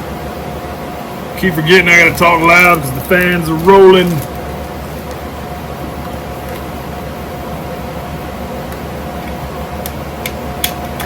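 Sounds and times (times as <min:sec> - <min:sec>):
room fans whirring: 0:00.0 - 0:11.0.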